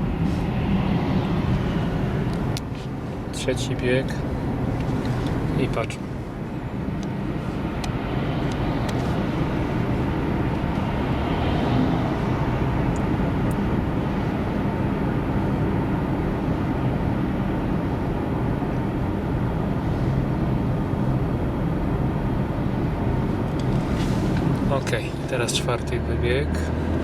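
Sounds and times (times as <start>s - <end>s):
car engine hum: 0.0s - 27.0s
road and tyre noise: 0.0s - 27.0s.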